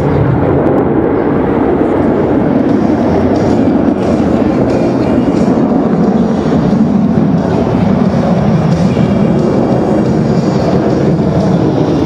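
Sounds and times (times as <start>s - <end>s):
jet engines rumbling overhead: 0.0s - 12.0s.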